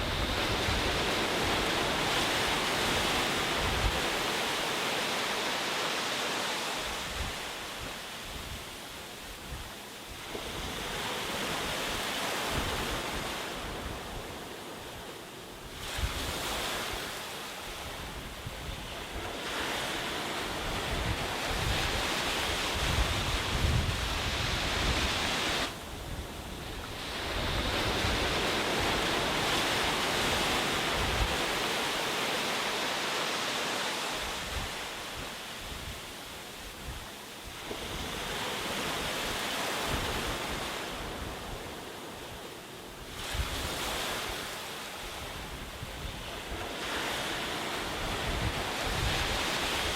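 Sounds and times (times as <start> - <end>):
wind rumble on microphone: 0.0 - 4.7, 6.8 - 32.3, 34.1 - 49.9
waves washing onto a beach: 0.0 - 49.9.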